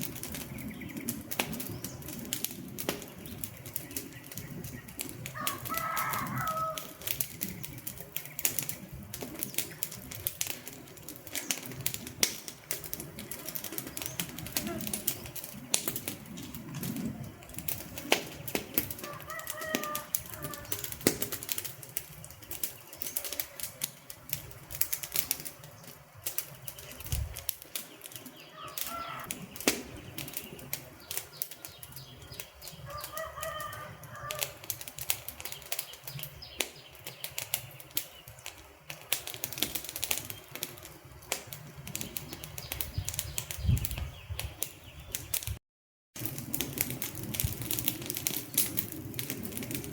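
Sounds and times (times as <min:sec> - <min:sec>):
wood fire crackling: 0:00.0 - 0:45.6, 0:46.2 - 0:49.9.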